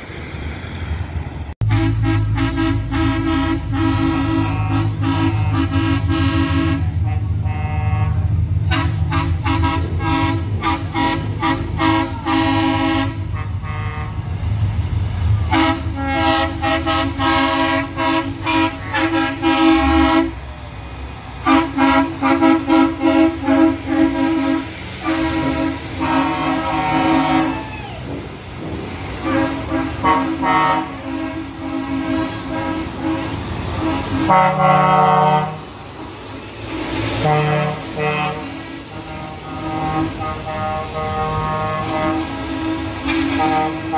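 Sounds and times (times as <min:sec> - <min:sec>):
diesel engines rumbling: 0:00.0 - 0:43.9
truck horns tooting: 0:01.6 - 0:14.6, 0:15.2 - 0:20.7, 0:21.4 - 0:28.2, 0:29.1 - 0:35.8, 0:37.0 - 0:43.9.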